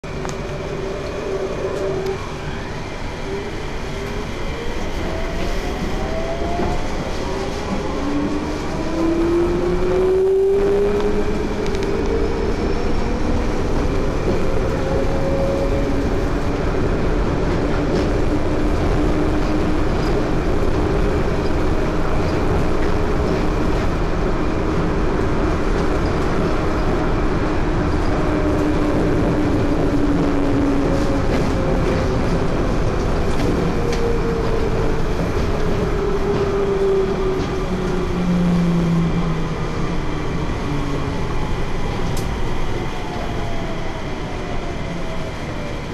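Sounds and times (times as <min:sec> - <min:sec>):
train rumble and tyre roar: 0:00.0 - 0:45.9.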